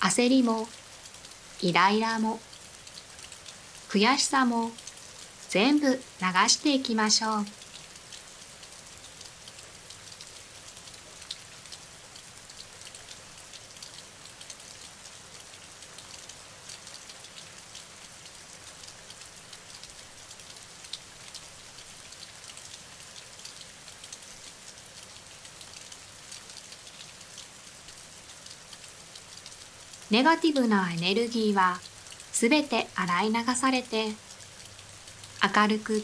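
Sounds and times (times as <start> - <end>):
steady rain hissing: 0.0 - 36.0.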